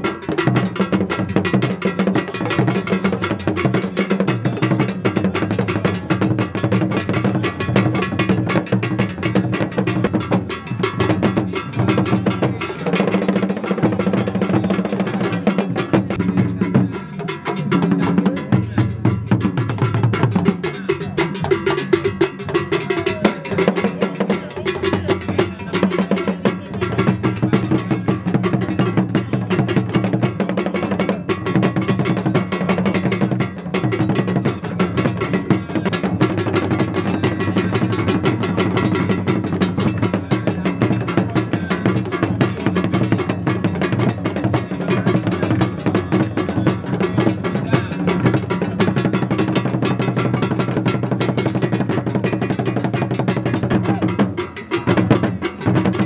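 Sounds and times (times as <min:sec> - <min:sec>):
drums in quick rhythm: 0:00.0 - 0:56.0
wood-block and bell strokes: 0:00.0 - 0:56.0.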